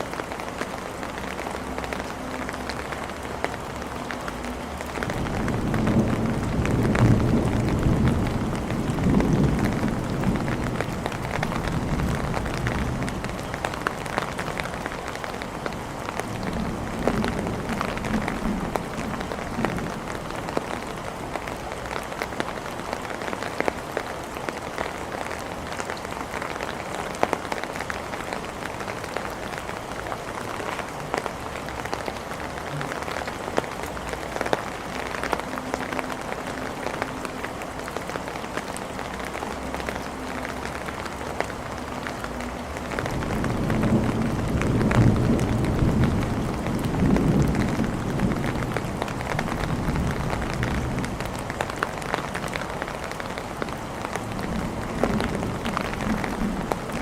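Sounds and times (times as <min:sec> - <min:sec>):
rain on hard surfaces: 0:00.0 - 0:57.0.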